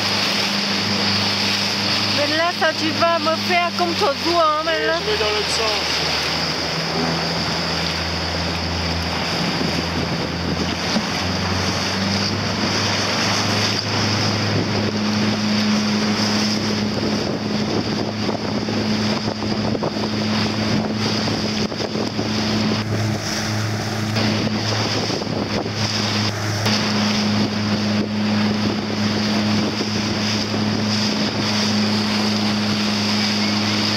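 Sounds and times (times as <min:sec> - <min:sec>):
boat engine hum: 0:00.0 - 0:33.9
water rushing past a boat: 0:00.0 - 0:33.9
wind buffeting the microphone: 0:06.1 - 0:33.9.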